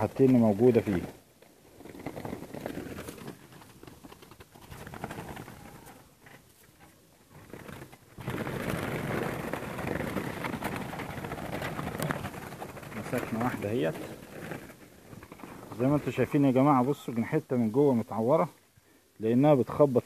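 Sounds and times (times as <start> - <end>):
doves flapping against wire: 0.0 - 16.4.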